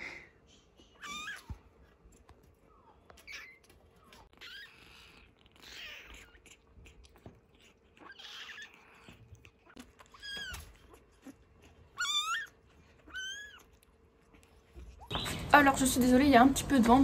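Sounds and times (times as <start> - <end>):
kittens mewing: 0.9 - 15.1
kittens suckling from bottle: 1.0 - 15.2.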